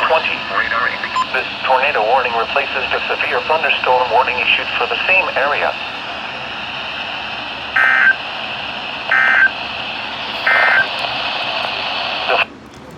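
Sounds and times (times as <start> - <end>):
steady hiss: 0.0 - 12.5.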